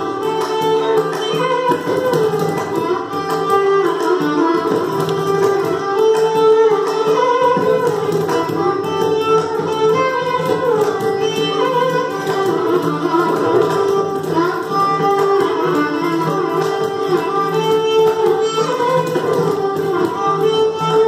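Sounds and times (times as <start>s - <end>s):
hand drum strokes: 0.0s - 21.0s
violins playing ornamented melody: 0.0s - 21.0s.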